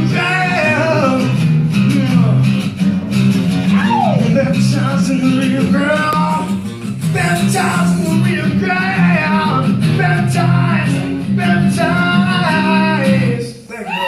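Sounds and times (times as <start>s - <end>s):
man singing: 0.0s - 2.7s, 3.7s - 14.0s
strummed acoustic guitar: 0.0s - 13.5s.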